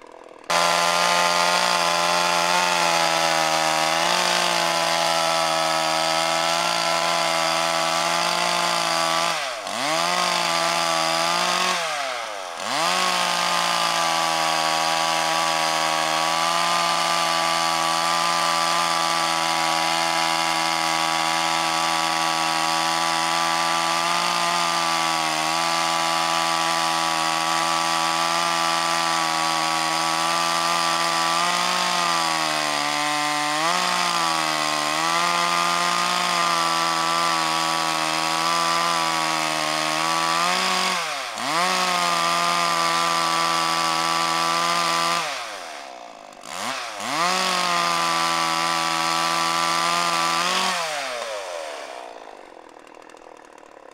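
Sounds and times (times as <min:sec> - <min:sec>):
chainsaw cutting a branch: 0:00.0 - 0:53.9.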